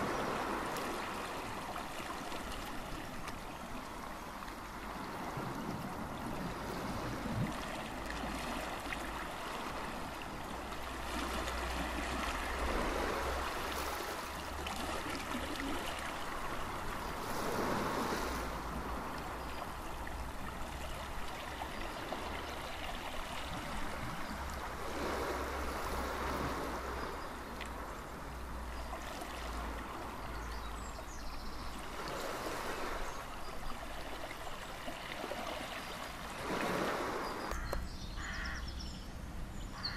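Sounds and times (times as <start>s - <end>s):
waves washing over shingle: 0.0s - 30.2s, 31.7s - 37.6s.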